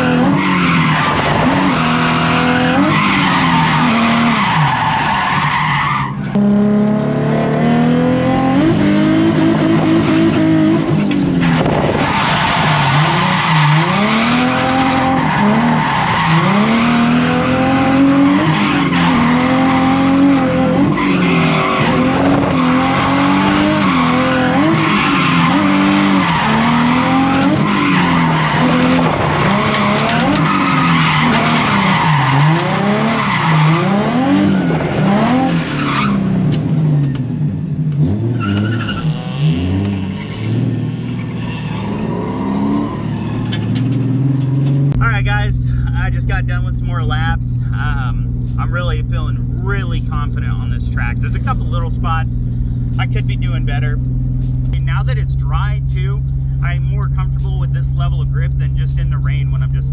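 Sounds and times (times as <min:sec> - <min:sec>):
car engine revving: 0:00.0 - 0:59.9
tyres skidding and squealing: 0:00.0 - 0:59.9.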